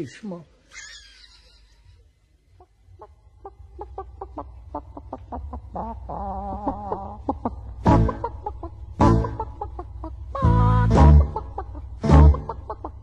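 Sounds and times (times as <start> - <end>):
steady low hum: 1.8 - 13.0
hen clucking and cackling: 2.5 - 13.0.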